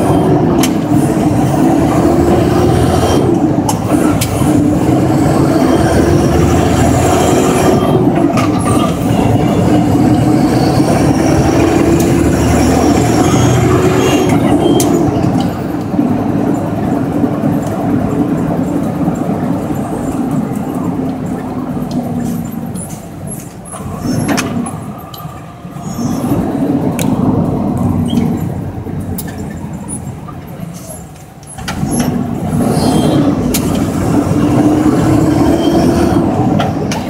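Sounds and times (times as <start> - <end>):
truck diesel engine accelerating: 0.0 - 37.0.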